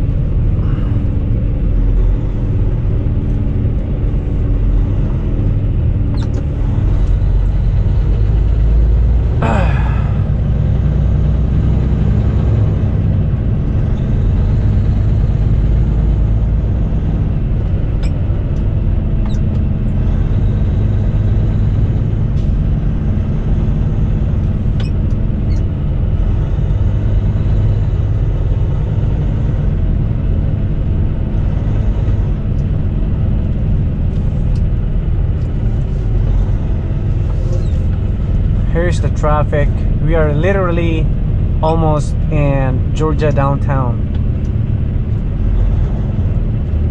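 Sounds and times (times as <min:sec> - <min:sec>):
truck diesel engine and road noise: 0:00.0 - 0:46.9.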